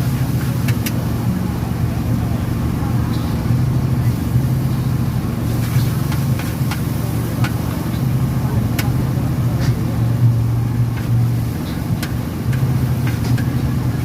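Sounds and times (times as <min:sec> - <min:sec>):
gas burner rumbling: 0:00.0 - 0:14.0.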